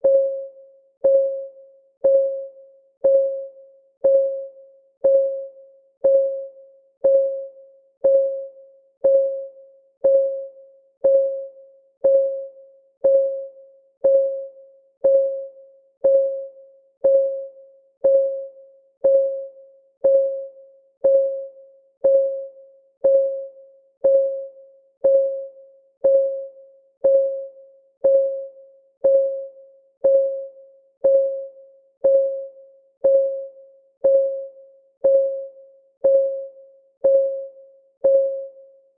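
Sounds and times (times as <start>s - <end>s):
countdown timer ticking: 2.0s - 2.4s, 3.0s - 38.6s.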